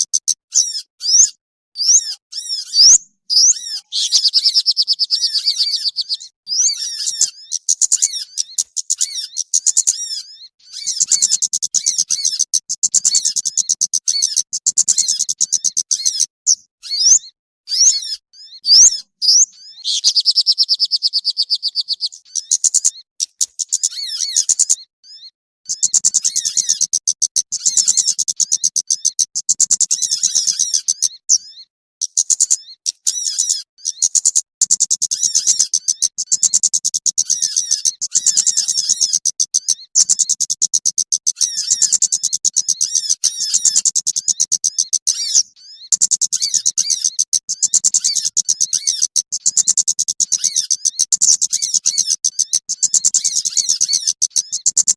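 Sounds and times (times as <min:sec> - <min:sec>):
bird call chirping and trilling: 0:00.0 - 0:54.9.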